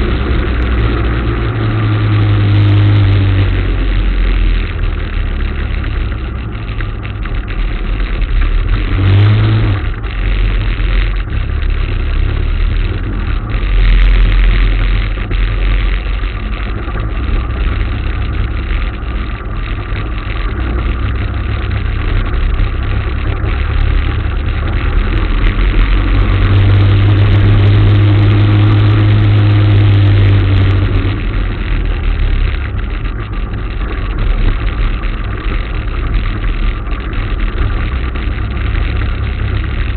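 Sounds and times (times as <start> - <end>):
motorcycle engine running: 0.0 - 39.9
steady rushing noise: 0.0 - 39.9.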